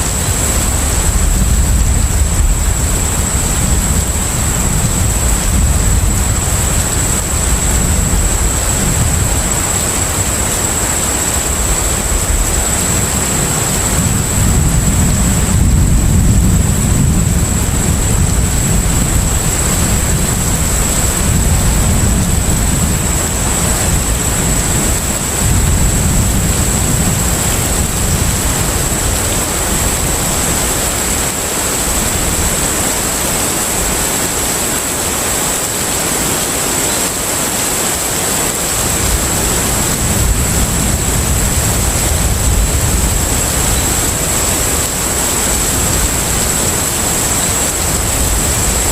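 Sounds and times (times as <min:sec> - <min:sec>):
wind and water rushing: 0:00.0 - 0:48.9.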